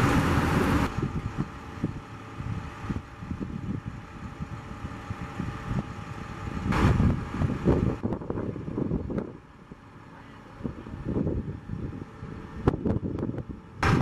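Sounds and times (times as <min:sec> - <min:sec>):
crane engine running: 0:00.0 - 0:14.0
wind buffeting microphone: 0:00.0 - 0:14.0.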